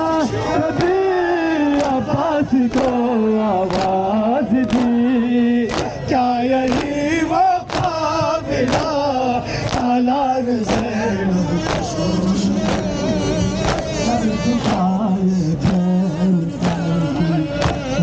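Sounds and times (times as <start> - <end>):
man chanting a lament: 0.0 - 18.0.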